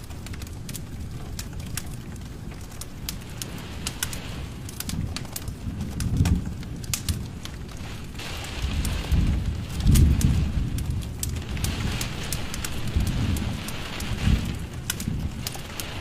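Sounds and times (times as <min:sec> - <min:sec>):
low flame rumble: 0:00.0 - 0:16.0
wood fire crackling and popping: 0:00.0 - 0:16.0.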